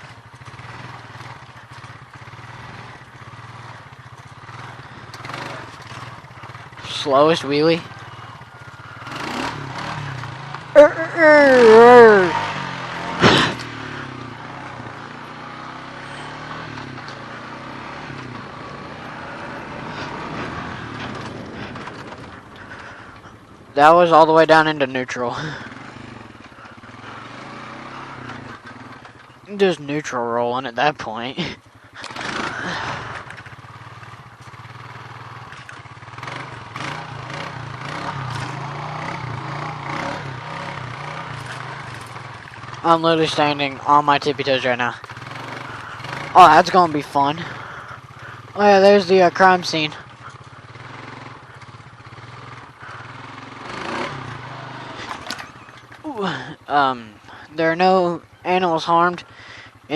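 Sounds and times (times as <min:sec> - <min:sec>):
quad engine running at low revs: 0:00.0 - 0:59.9
quad rolling rumble: 0:00.0 - 0:59.9.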